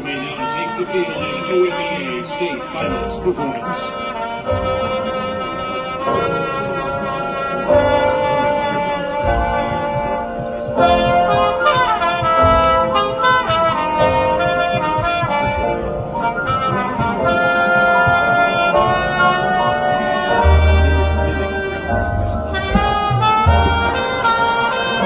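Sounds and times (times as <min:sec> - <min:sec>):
marching band brass chords: 0:00.0 - 0:25.0.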